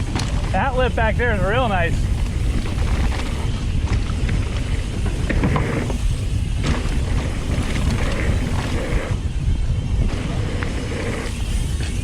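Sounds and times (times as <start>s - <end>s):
bike clicks and rattles: 0.0s - 12.0s
mountain bike rolling on dirt: 0.0s - 12.0s
wind buffeting microphone: 0.0s - 12.0s.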